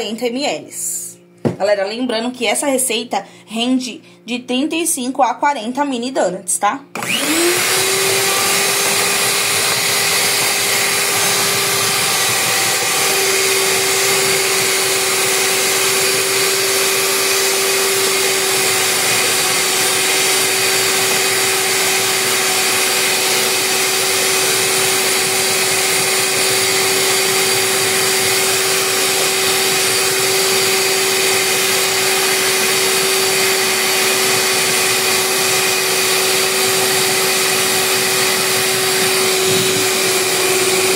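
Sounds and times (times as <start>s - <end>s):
stand mixer whisking: 7.0s - 40.9s.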